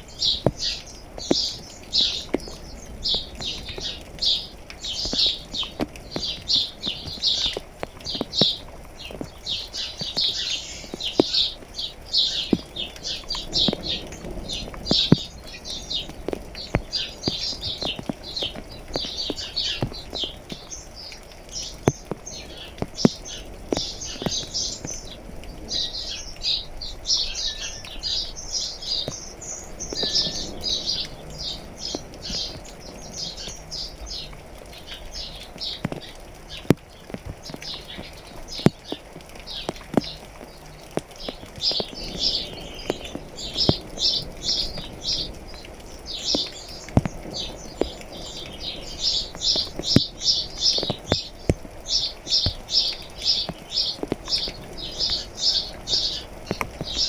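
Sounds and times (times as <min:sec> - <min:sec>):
light rain: 0:00.0 - 0:57.0
raindrops tapping hard surface: 0:00.0 - 0:57.0
small birds chirping: 0:00.0 - 0:57.0.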